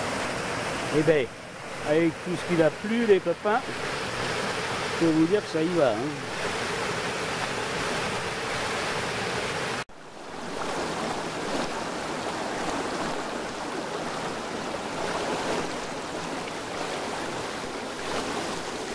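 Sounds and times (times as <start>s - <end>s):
stream rushing over stones: 0.0s - 18.9s.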